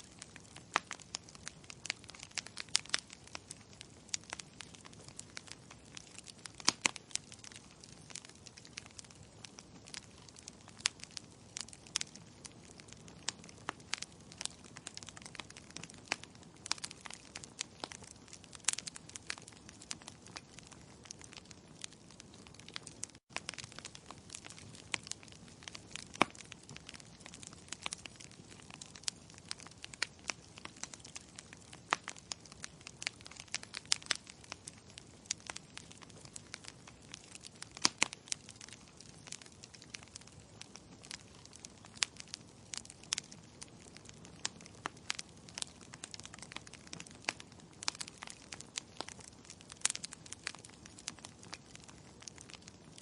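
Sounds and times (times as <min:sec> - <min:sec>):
burning logs crackling: 0:00.0 - 0:53.0
soft steady hiss: 0:00.0 - 0:53.0.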